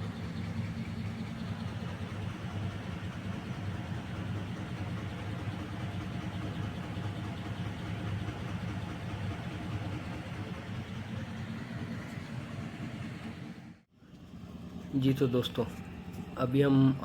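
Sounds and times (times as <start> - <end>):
air conditioner blower running roughly: 0.0 - 17.0.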